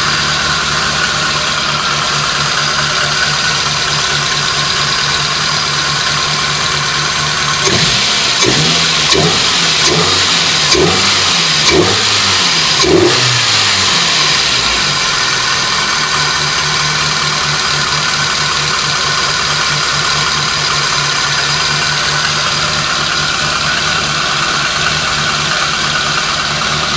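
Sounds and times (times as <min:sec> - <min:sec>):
car engine idling and revving: 0:00.0 - 0:26.9.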